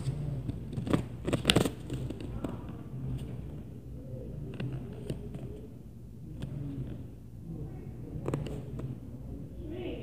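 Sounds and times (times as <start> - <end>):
low broken hum: 0.0 - 10.0.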